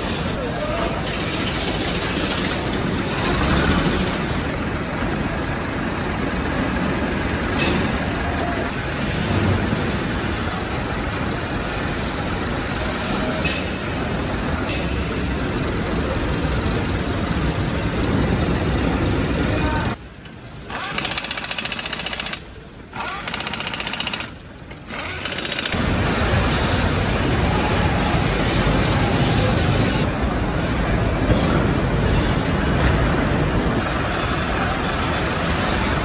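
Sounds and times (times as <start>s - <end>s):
factory machinery noise: 0.0s - 36.0s.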